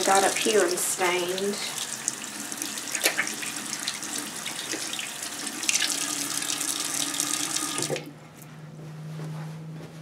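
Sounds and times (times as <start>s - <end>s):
faucet running into sink: 0.0s - 8.1s.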